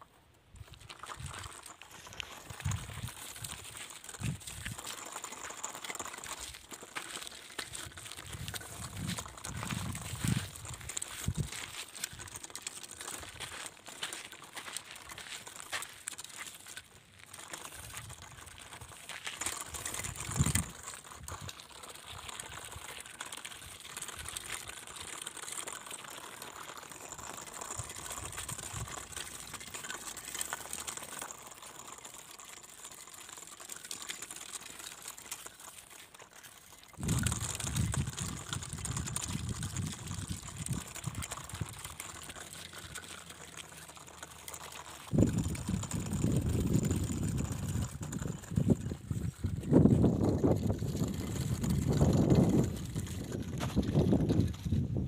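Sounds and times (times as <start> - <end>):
grit crunching under toy roller: 0.0 - 55.0.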